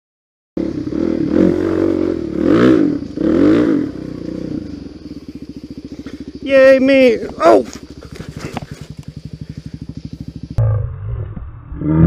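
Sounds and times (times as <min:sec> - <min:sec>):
dirt bike engine revving: 0:00.6 - 0:12.0.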